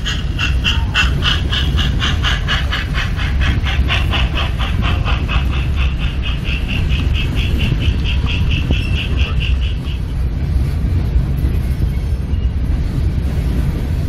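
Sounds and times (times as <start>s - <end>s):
model steam locomotive chuffing: 0.0s - 11.5s
low rumble of running train: 0.0s - 14.0s.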